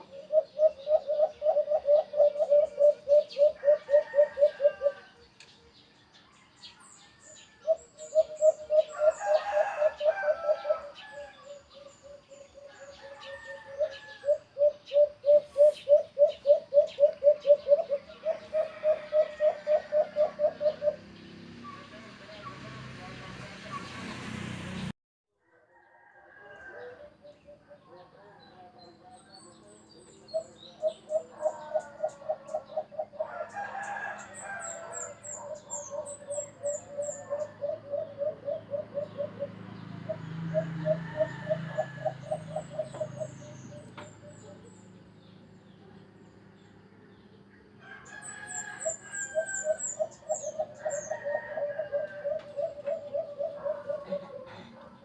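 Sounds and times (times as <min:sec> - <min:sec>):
birds calling repeated notes: 0:00.0 - 0:24.8, 0:29.7 - 0:45.4, 0:48.1 - 0:55.0.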